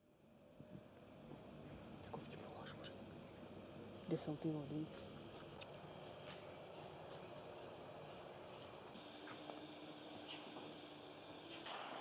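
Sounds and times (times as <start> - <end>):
insects droning high-pitched: 0.0 - 12.0
lower steady insect tone: 0.0 - 12.0.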